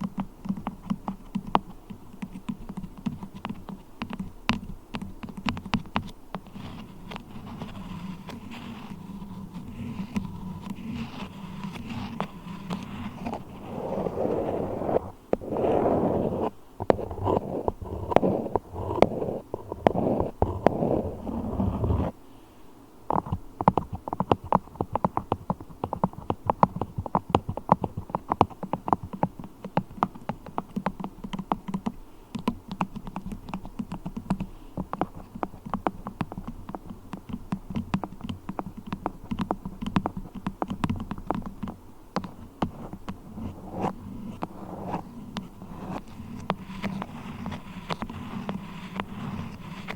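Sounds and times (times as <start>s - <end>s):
beeswax rubbing: 0.0s - 22.2s, 23.1s - 49.9s.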